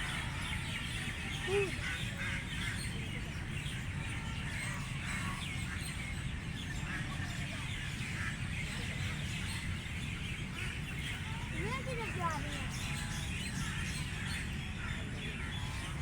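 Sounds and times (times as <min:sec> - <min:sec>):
faint background voices: 0:00.0 - 0:16.0
small birds chirping: 0:00.0 - 0:16.0.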